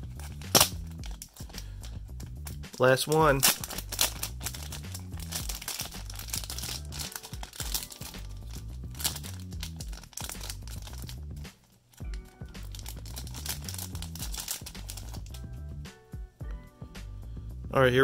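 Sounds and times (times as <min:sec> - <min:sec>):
plastic wrapper crinkling and tearing: 0:00.0 - 0:01.9, 0:02.5 - 0:15.4
background music: 0:00.0 - 0:18.0.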